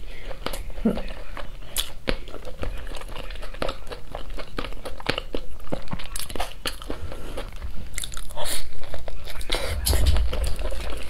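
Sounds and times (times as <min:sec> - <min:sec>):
crunching and chewing: 0:00.0 - 0:11.0.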